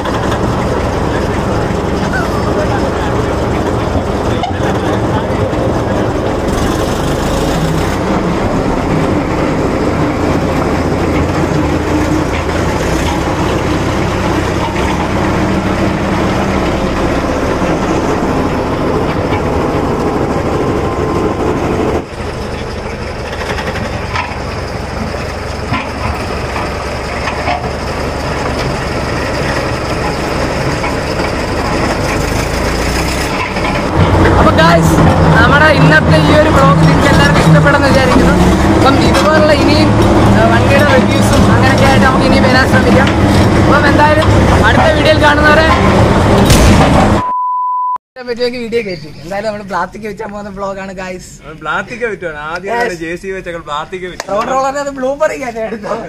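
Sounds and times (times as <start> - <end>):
road roller diesel engine: 0.0 - 47.2.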